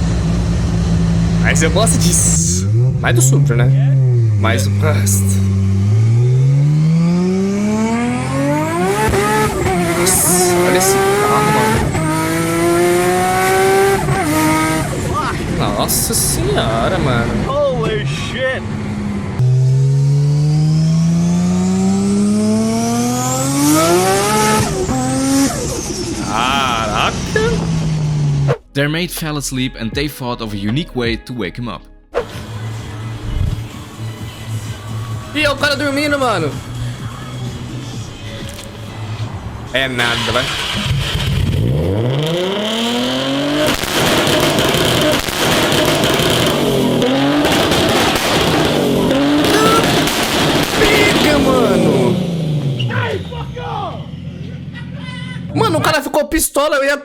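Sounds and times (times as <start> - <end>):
car engine accelerating hard: 0.0 - 28.6, 32.2 - 55.1.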